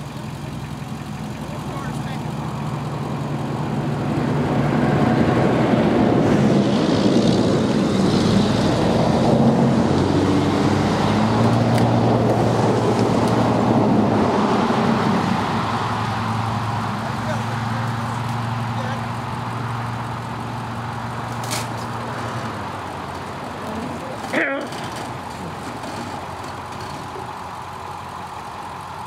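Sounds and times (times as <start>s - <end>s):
car engine revving under load: 0.0s - 29.0s.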